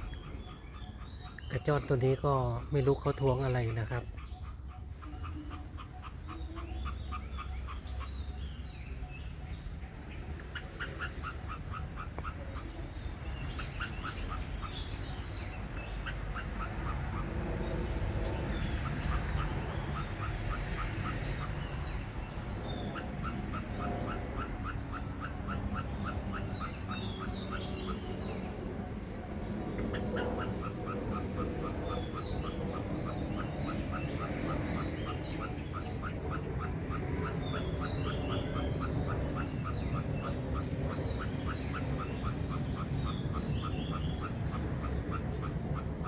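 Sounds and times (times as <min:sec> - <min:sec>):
treeshrew chattering calls: 0:00.0 - 0:46.0.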